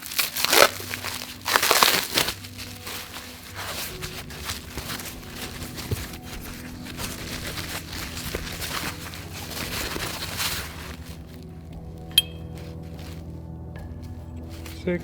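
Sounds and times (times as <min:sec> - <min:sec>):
packaging rustling and crinkling: 0:00.0 - 0:14.9.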